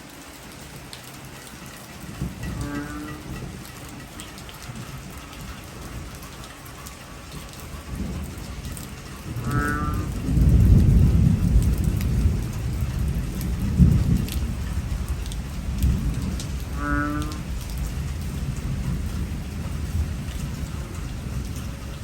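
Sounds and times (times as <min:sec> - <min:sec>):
heavy rain pouring: 0:00.0 - 0:22.0
thunder rumble: 0:02.1 - 0:22.0.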